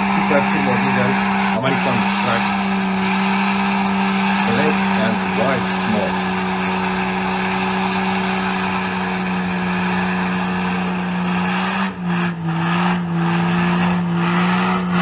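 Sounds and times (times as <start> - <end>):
engine at high revs: 0.0 - 15.0.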